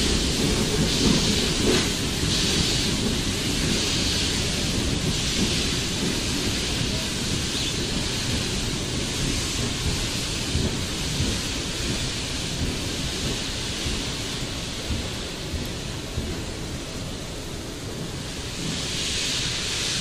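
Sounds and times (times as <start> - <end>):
locomotive steam hissing: 0.0 - 20.0.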